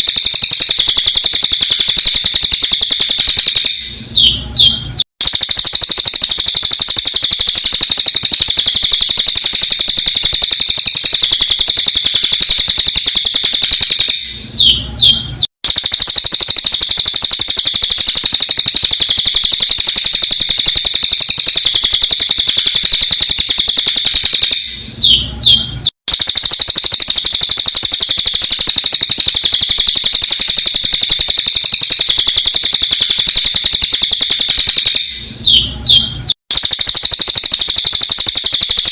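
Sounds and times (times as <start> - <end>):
songbird rapid high trill: 0.0 - 4.4, 5.2 - 14.4, 15.6 - 24.9, 25.5 - 35.3, 36.5 - 38.9
bird chirps: 0.0 - 38.9.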